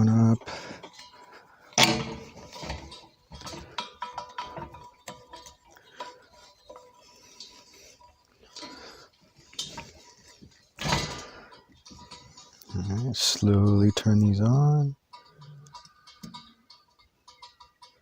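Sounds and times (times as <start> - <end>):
metal clinks and knocks: 0.0 - 18.0.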